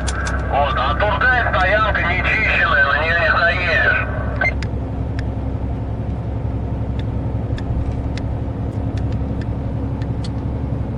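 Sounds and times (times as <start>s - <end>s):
truck engine drone: 0.0s - 10.9s.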